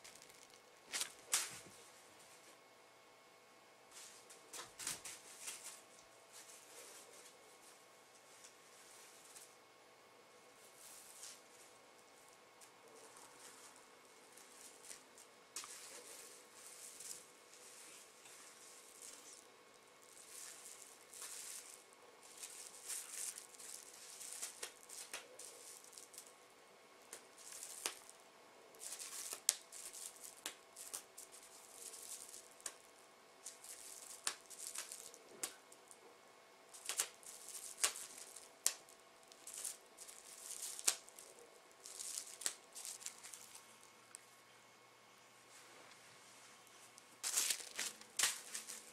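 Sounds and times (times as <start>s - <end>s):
plastic film crinkling: 0.0s - 1.7s, 4.0s - 7.3s, 10.7s - 26.4s, 27.1s - 36.0s, 36.7s - 44.2s, 46.8s - 48.9s.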